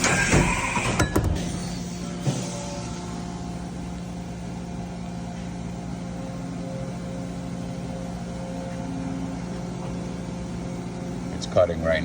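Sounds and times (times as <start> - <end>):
machining center humming: 0.0 - 12.0.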